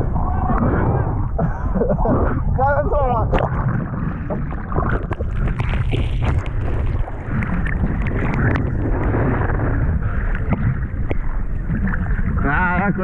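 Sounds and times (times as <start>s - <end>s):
wind buffeting microphone: 0.0s - 13.0s
sea water splashing: 2.0s - 13.0s.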